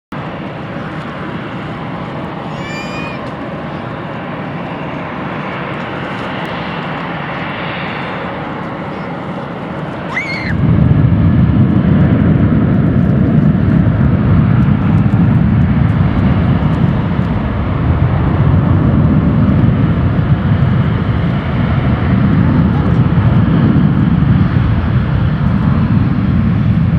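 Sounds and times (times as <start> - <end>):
deep rumble: 0.1 - 26.9
jet engines at takeoff: 0.1 - 26.9.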